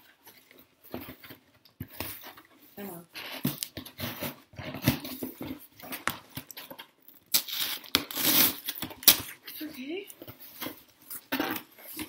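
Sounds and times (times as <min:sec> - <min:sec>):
packing tape tearing off cardboard: 0:00.9 - 0:09.7, 0:10.3 - 0:12.0.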